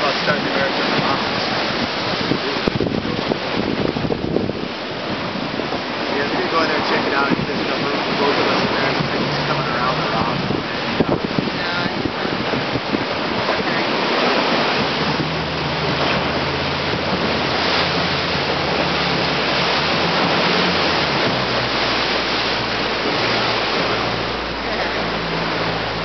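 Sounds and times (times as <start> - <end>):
outboard motor humming: 0.0 - 26.0
sea water surging and splashing: 0.0 - 26.0
wind: 0.0 - 26.0.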